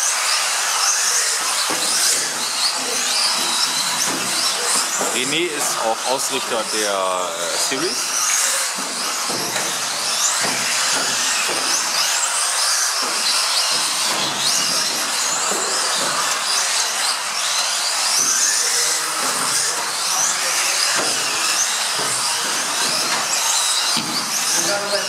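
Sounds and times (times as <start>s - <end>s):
electric toy car motors whining: 0.0s - 25.0s.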